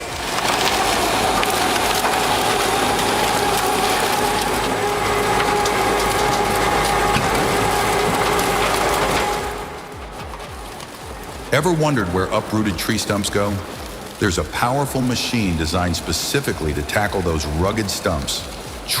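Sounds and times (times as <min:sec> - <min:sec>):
wood cracking and splintering: 0:00.0 - 0:19.0
wood grinding machine whine: 0:00.0 - 0:19.0.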